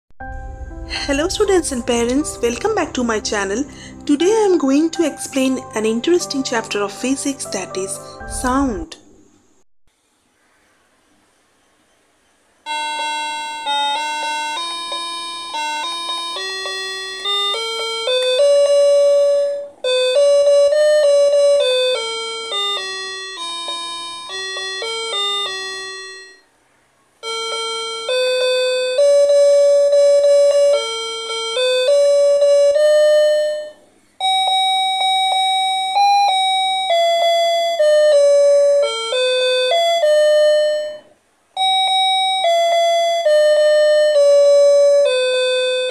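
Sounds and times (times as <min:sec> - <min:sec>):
toy keyboard melody: 0:02.5 - 0:08.5, 0:12.7 - 0:26.5, 0:27.2 - 0:45.9.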